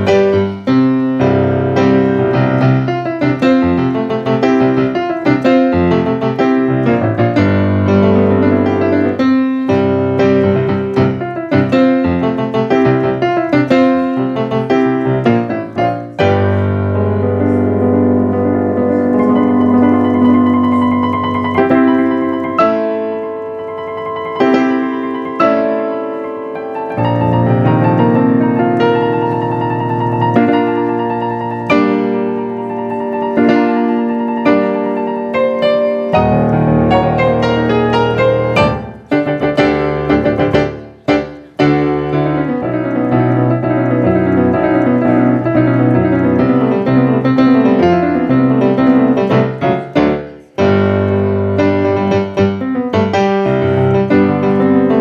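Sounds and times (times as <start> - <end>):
piano playing chords: 0.0 - 55.0.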